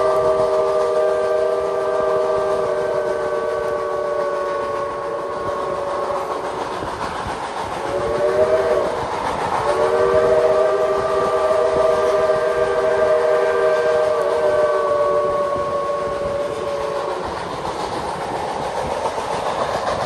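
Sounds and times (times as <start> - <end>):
steam locomotive whistle: 0.0 - 7.1, 7.7 - 20.0
train rumbling: 0.0 - 20.0.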